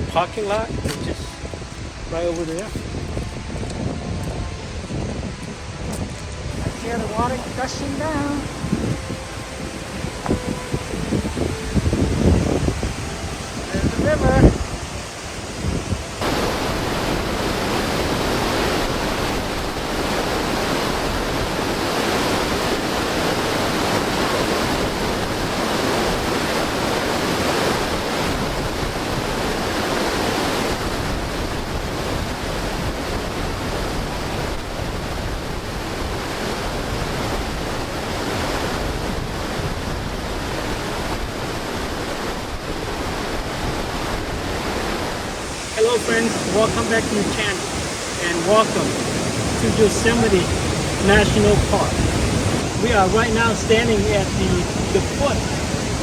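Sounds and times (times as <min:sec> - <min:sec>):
rushing creek water: 0:00.0 - 0:56.0
wind buffeting microphone: 0:00.0 - 0:56.0.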